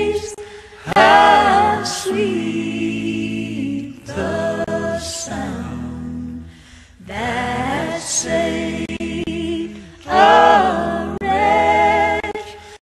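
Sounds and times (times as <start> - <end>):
voices singing in harmony: 0.0 - 12.8.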